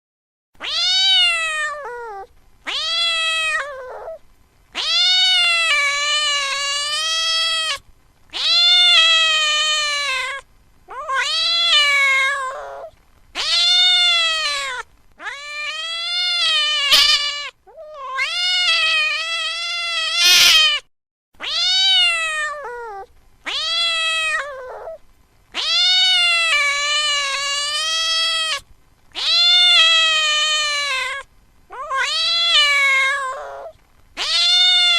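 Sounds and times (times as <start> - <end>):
cat meowing: 0.6 - 4.2, 4.8 - 25.0, 25.6 - 34.9.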